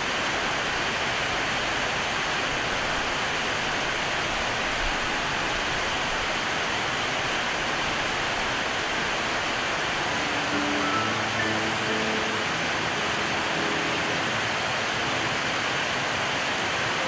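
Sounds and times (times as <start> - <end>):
rain on metal roof: 0.0 - 17.0.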